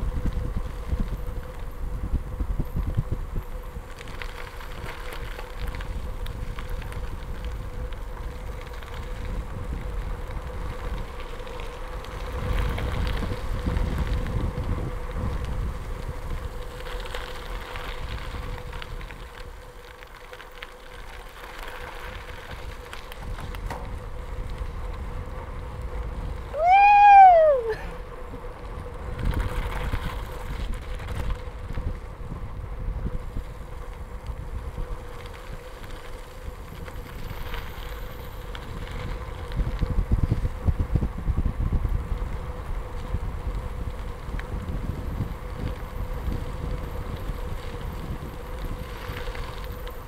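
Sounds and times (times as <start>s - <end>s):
bicycle tyres on gravel: 0.0s - 50.0s
wind rumbling on microphone: 0.0s - 50.0s.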